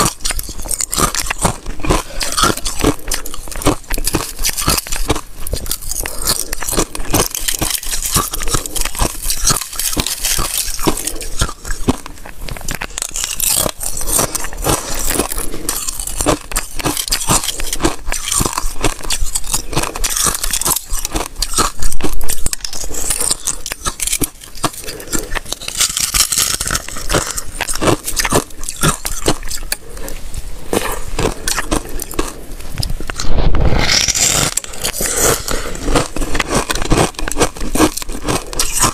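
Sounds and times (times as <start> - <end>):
ice flakes snapping: 0.0 - 12.0, 12.7 - 29.8, 33.1 - 38.9
ice crunching as chewed: 0.0 - 38.9.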